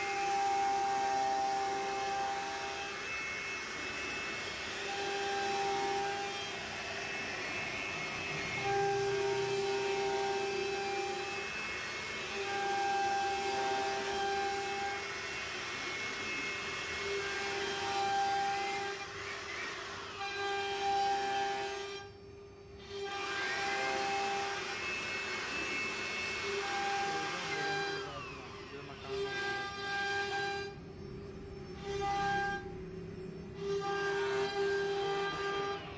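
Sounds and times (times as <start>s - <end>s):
router bit rasping wood: 0.0s - 22.2s, 22.8s - 35.9s
router spindle whine: 0.0s - 35.9s.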